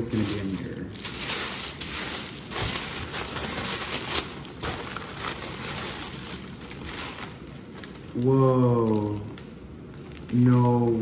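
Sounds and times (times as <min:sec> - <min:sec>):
wrapping paper crinkling and tearing: 0:00.0 - 0:11.0.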